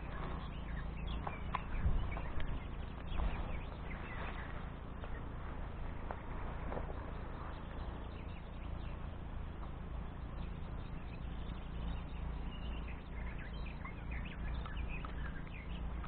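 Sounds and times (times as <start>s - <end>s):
small birds chirping: 0.0s - 16.0s
wind buffeting microphone: 0.0s - 16.0s.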